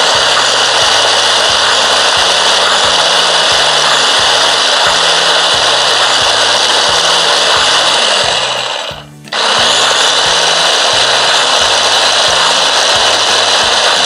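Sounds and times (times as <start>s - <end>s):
electric food chopper grinding: 0.0s - 14.0s.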